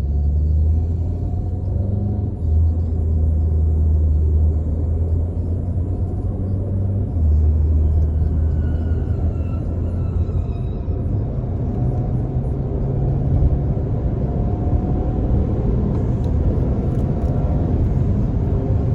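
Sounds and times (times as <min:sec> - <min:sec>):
car engine droning: 0:00.0 - 0:18.9.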